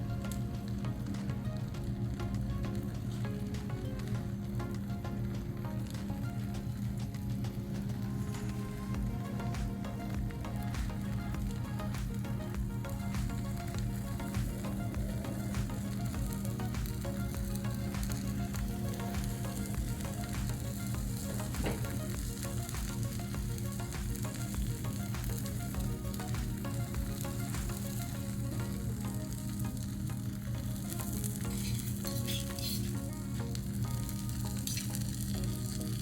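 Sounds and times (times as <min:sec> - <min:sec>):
eggs sizzling on a griddle: 0:00.3 - 0:36.0.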